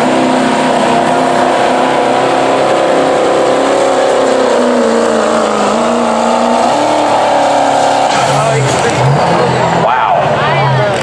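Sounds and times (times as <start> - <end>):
diesel truck engine under load: 0.0 - 11.0.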